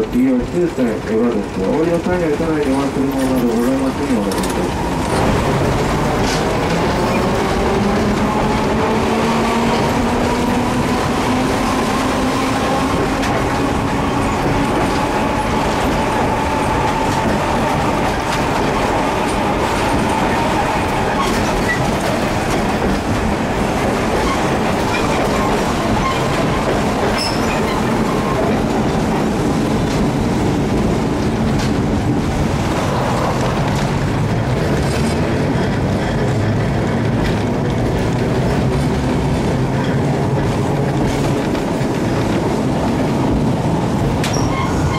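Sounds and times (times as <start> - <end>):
tram wheels rumbling on rails: 0.0 - 44.9.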